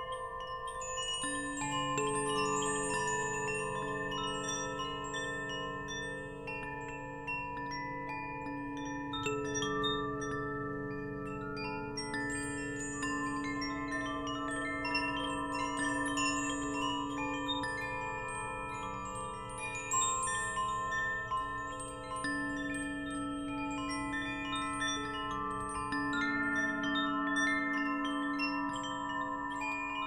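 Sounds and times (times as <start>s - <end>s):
wind chimes tinkling: 0.0s - 30.0s.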